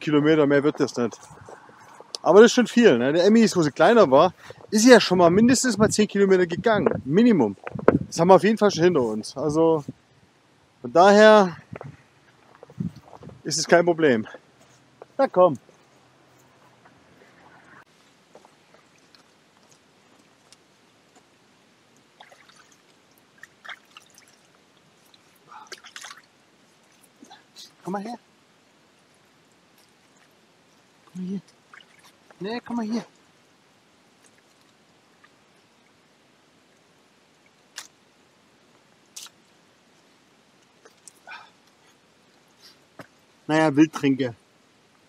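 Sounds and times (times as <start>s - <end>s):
faint trickle of water: 8.4s - 45.0s.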